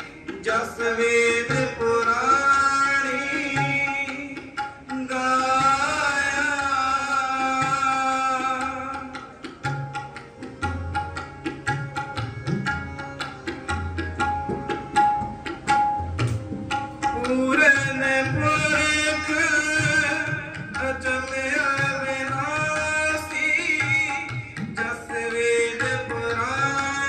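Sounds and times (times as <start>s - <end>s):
tabla drum strokes: 0.0s - 27.0s.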